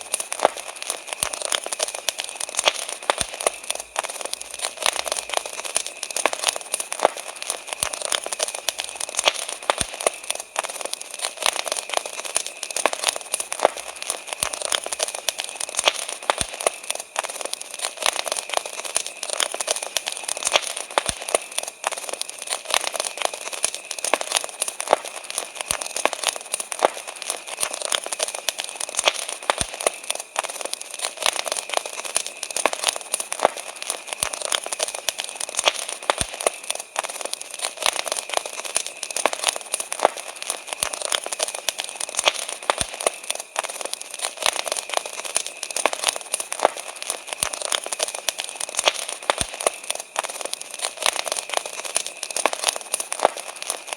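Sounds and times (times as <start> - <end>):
campfire crackling: 0.0 - 53.9.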